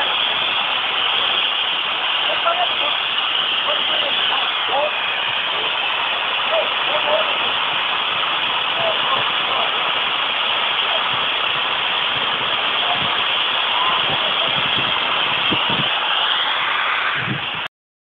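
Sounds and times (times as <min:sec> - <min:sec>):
steam hissing from locomotive: 0:00.0 - 0:17.7.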